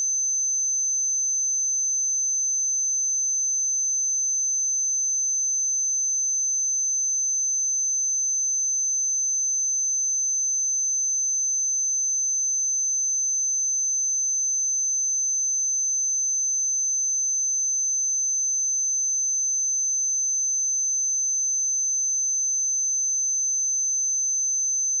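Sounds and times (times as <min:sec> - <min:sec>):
high-pitched sine test tone: 0:00.0 - 0:25.0.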